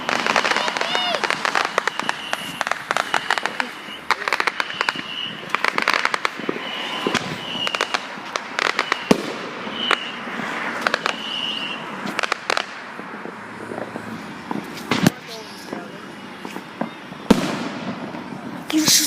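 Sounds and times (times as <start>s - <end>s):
firework whistles: 0.0s - 12.8s, 14.8s - 19.0s
fireworks bangs and crackling: 0.0s - 19.0s.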